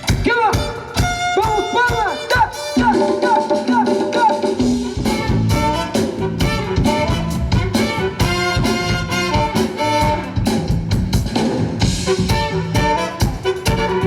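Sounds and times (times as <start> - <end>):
drum kit steady beat: 0.0 - 14.0
live band playing instrumental: 0.0 - 14.0.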